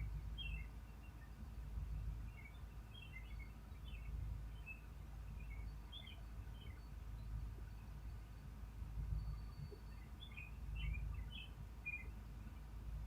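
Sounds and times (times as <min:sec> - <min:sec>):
small birds chirping: 0:00.0 - 0:12.8
steady low rumble: 0:00.0 - 0:13.0.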